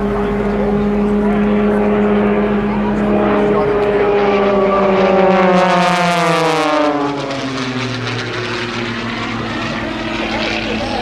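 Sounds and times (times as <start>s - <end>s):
propeller airplane engine passing: 0.0s - 11.0s.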